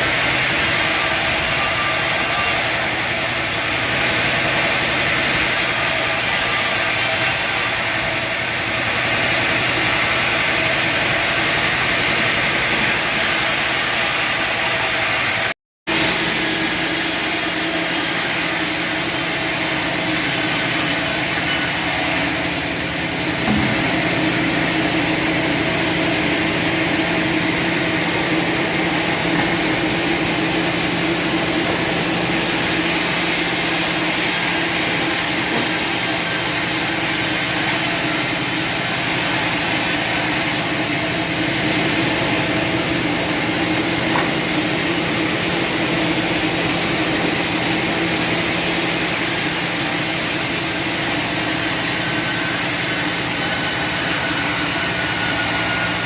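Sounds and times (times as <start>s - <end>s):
bandsaw sawmill running: 0.0s - 56.0s.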